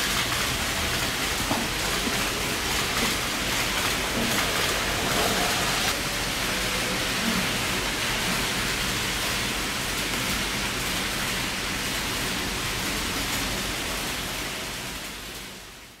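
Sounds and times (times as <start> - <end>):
model trains whirring on track: 0.0 - 16.0.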